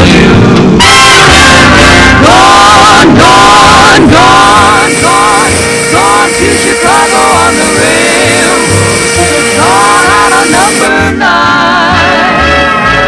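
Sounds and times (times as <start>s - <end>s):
song with sung melody: 0.0s - 13.0s.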